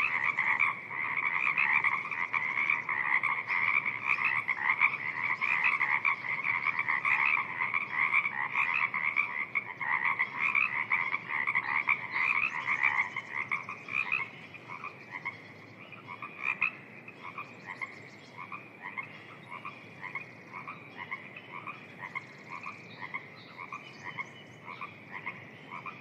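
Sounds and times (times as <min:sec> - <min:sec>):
frogs croaking: 0:00.0 - 0:26.0.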